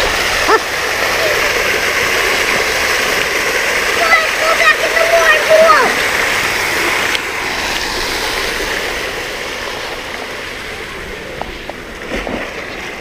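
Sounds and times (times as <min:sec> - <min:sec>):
fountain water falling into pool: 0:00.0 - 0:13.0.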